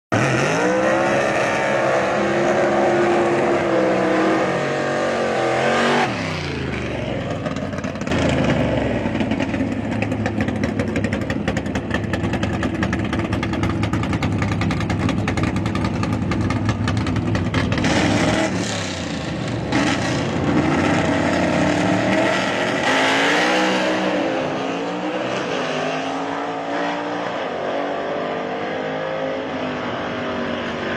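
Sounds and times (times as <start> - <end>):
car engine revving: 0.1 - 30.9.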